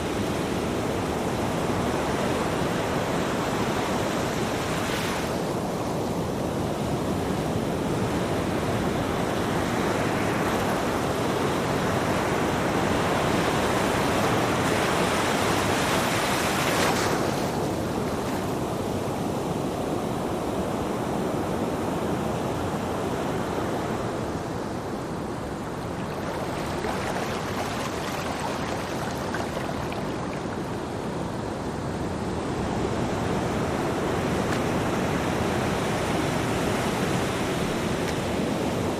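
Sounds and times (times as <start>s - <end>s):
ocean surf washing onto beach: 0.0s - 38.9s.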